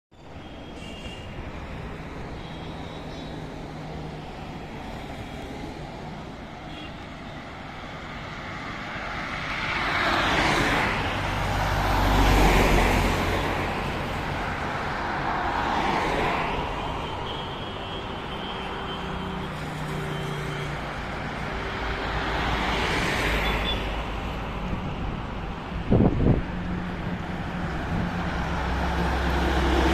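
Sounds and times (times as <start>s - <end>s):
vehicles passing on highway: 0.1s - 29.9s.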